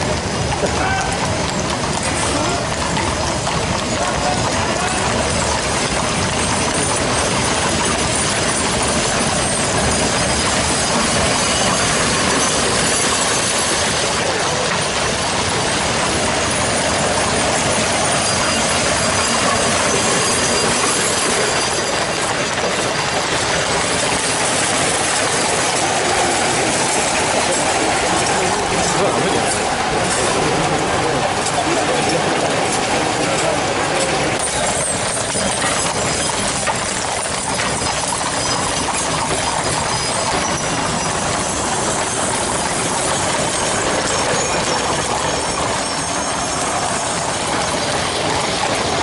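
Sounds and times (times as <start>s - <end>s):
carriage wheels rumbling and rattling: 0.0s - 49.0s
horses hooves clattering: 0.0s - 49.0s.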